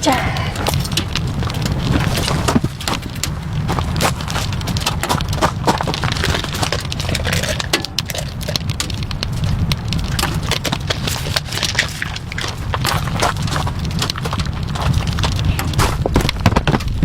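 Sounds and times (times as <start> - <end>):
heavy raindrops tapping: 0.0 - 17.0
steady low rumble: 0.0 - 17.0.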